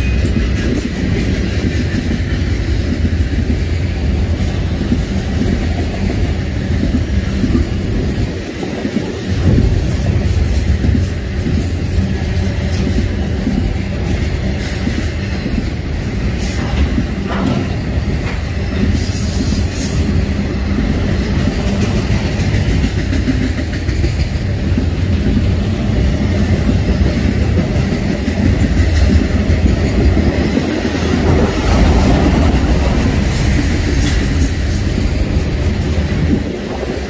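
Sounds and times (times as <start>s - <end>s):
clickety-clack over rail joints: 0.0s - 37.0s
train wheels rumbling on rail: 0.0s - 37.0s.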